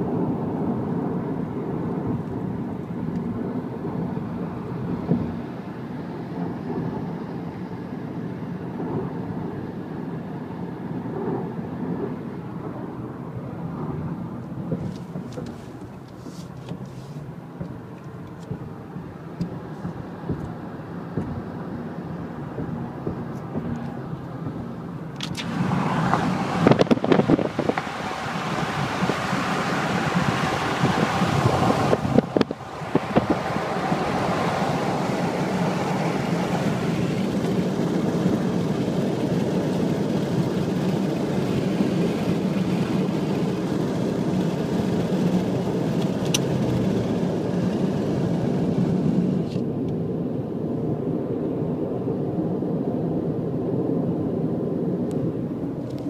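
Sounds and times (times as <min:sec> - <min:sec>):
car road noise inside cabin: 0:00.0 - 0:56.0.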